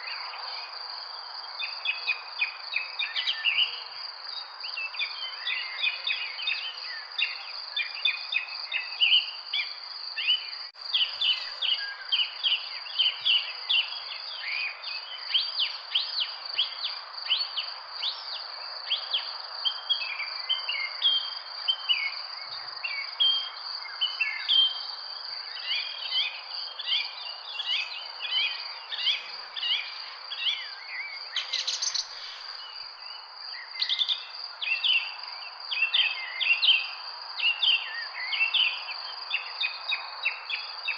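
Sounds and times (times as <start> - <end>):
small birds chirping: 1.6 - 40.9.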